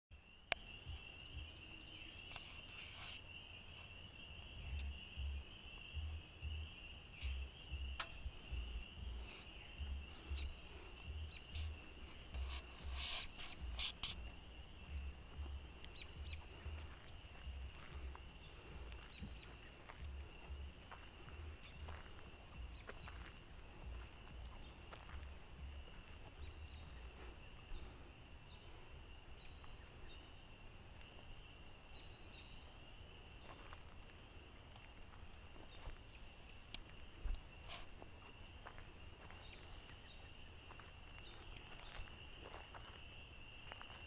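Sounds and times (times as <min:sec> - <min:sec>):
insects calling: 0:00.1 - 0:44.0.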